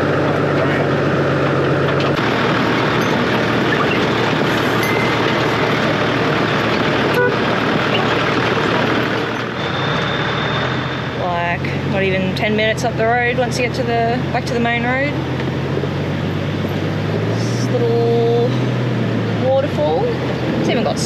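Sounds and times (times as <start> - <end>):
vehicle engine tyre and wind noise: 0.0 - 21.0.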